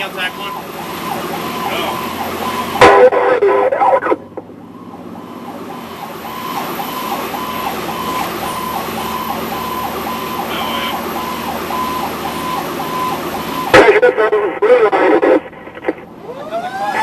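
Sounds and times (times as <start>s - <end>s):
fire engine siren yelping: 0.0s - 17.0s
truck engine and road noise: 0.0s - 17.0s.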